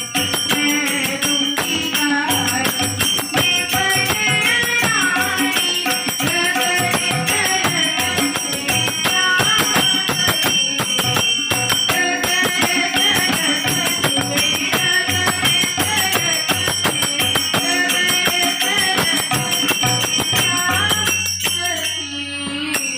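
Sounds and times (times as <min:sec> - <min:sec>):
girls singing devotional melody: 0:00.0 - 0:22.9
rapid hand percussion: 0:00.0 - 0:22.9.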